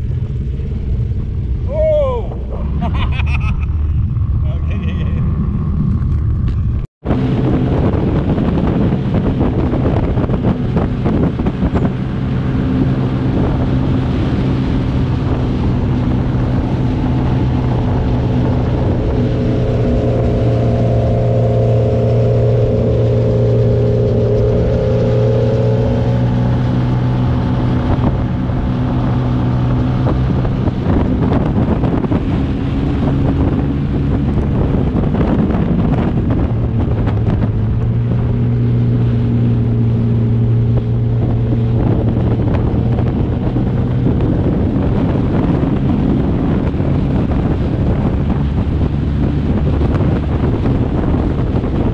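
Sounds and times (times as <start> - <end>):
wind rushing over microphone: 0.0 - 51.9
motorcycle engine running: 2.4 - 51.9.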